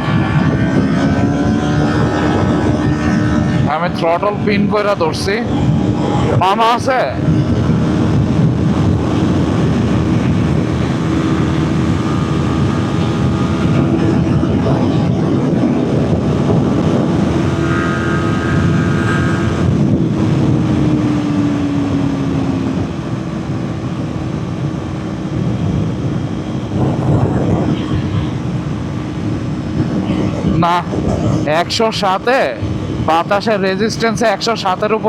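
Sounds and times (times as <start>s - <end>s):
motorcycle engine at full throttle: 0.0s - 35.0s
wind rush on microphone: 0.0s - 35.0s.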